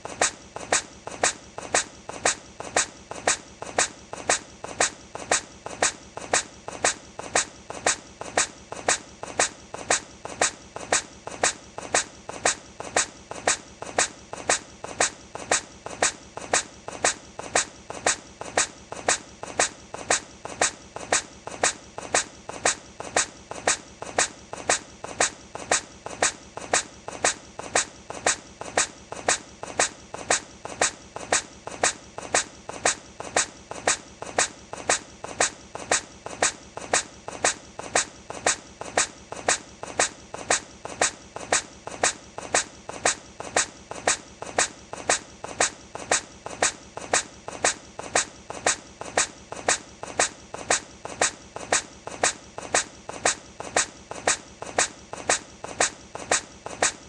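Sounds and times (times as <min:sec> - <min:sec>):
hedgehog sneezing: 0:00.0 - 0:57.0.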